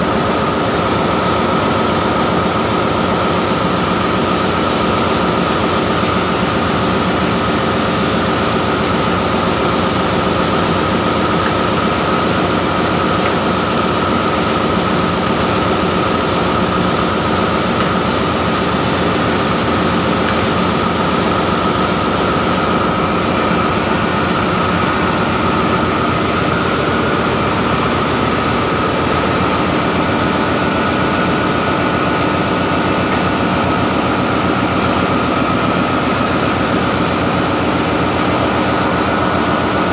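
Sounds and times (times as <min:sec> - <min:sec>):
diesel machinery drone: 0:00.0 - 0:39.9
steady machine whine: 0:00.0 - 0:39.9.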